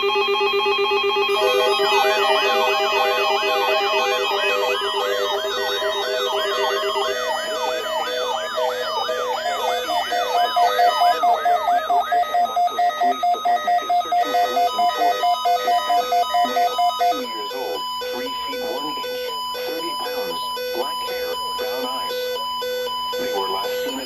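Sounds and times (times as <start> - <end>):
rising siren-like chirp: 0.0 - 24.0
steady electronic tones: 0.0 - 24.0
pulsing beeps: 0.1 - 24.0.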